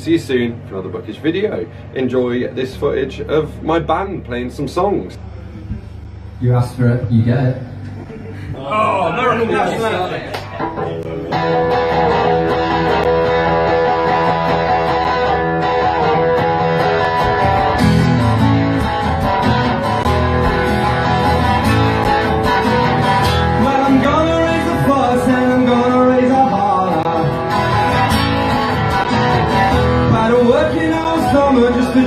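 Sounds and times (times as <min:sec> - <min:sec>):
electric and acoustic guitars playing: 0:00.0 - 0:32.0.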